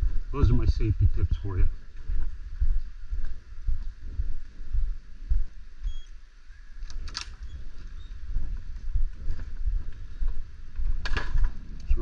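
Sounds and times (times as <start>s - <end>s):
low rumble: 0.0s - 5.9s, 7.4s - 12.0s
wind buffeting microphone: 0.0s - 5.9s, 6.6s - 12.0s.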